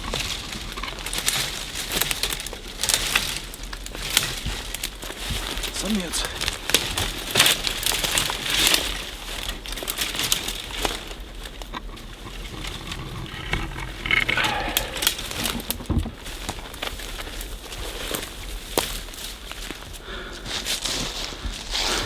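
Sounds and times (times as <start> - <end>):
rustling and crinkling handling noise: 0.0 - 22.0.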